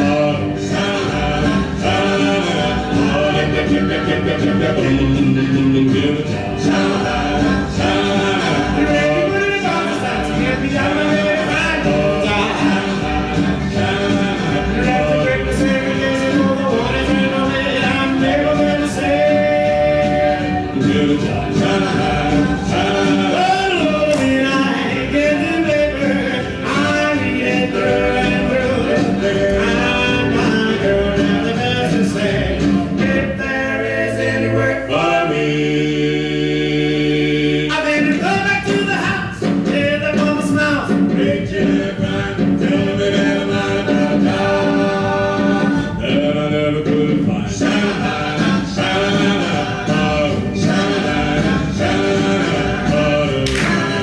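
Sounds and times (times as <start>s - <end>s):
full band playing: 0.0s - 34.5s, 35.6s - 54.0s
lead and group singing: 0.0s - 54.0s.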